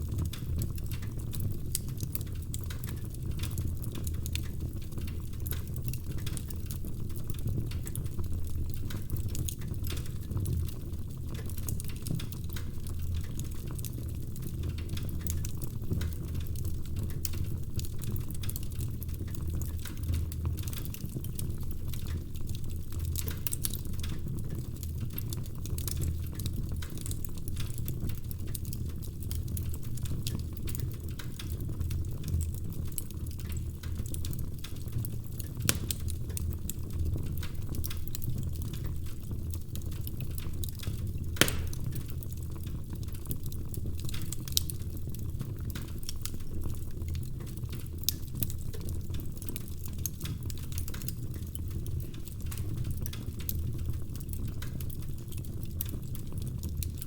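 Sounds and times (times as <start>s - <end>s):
log fire crackling: 0.0s - 57.0s
low rumble of burning: 0.0s - 57.0s.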